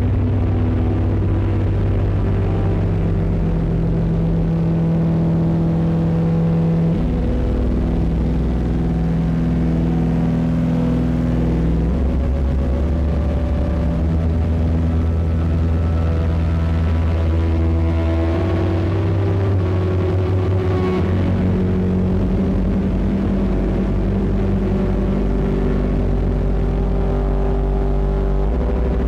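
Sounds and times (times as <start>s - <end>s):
distorted synthesizer drone: 0.0s - 29.0s.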